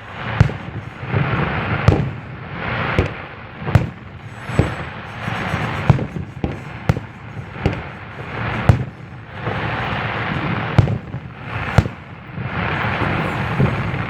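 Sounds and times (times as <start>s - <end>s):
firework crackling: 0.0s - 14.0s
firework shells bursting: 0.0s - 14.0s.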